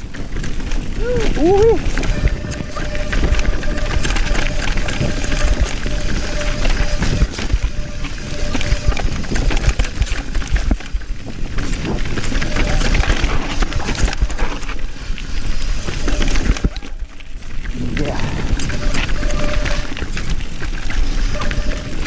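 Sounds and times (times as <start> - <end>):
bike rattling and knocking: 0.0 - 22.0
wind rushing over microphone: 0.0 - 22.0.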